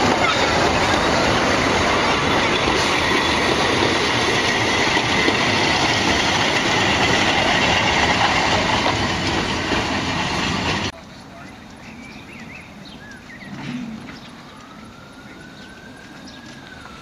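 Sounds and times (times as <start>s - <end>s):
train wheels rumbling and rattling: 0.0s - 14.8s.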